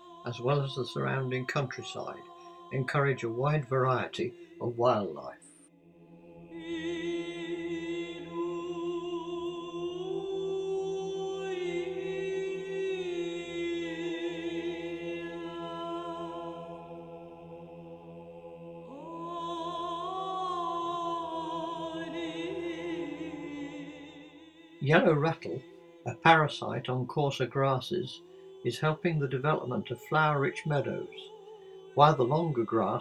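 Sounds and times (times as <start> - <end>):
choir-like held vocal notes: 0.0 - 33.0.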